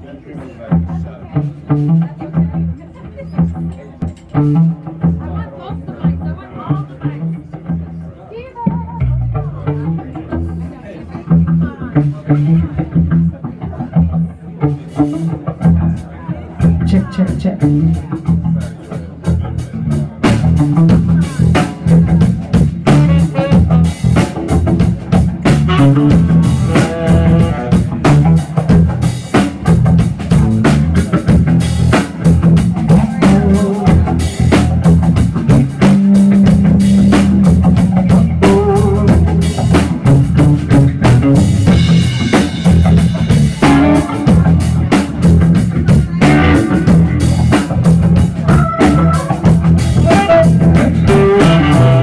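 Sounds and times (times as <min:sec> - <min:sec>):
electric bass: 0:00.0 - 0:52.0
drum kit: 0:00.6 - 0:52.0
electric guitar: 0:08.6 - 0:52.0.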